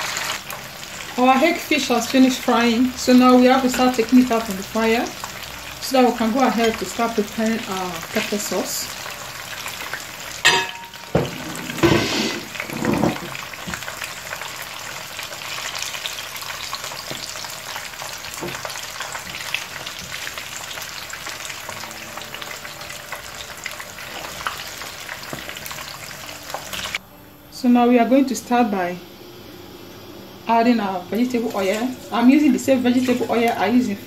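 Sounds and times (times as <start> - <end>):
fish deep-frying in oil: 0.0 - 27.0, 30.6 - 34.0.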